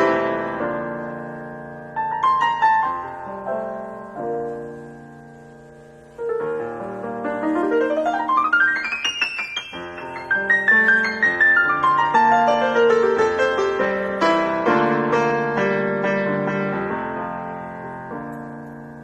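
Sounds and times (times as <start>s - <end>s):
digital piano chords: 0.0s - 19.0s
fast rising piano run: 0.0s - 19.0s.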